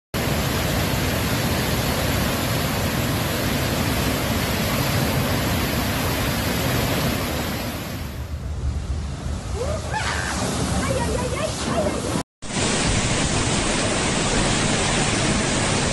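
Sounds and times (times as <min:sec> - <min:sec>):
rushing floodwater: 0:00.2 - 0:08.3, 0:09.1 - 0:15.9.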